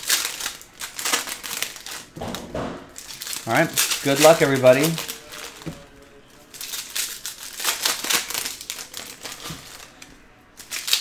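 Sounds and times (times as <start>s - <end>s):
foil wrappers crinkling: 0.0s - 2.3s, 2.9s - 11.0s.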